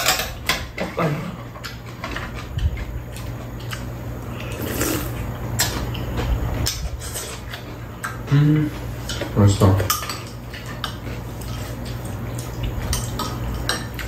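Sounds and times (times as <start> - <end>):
chewing: 0.8 - 9.4, 10.1 - 14.0.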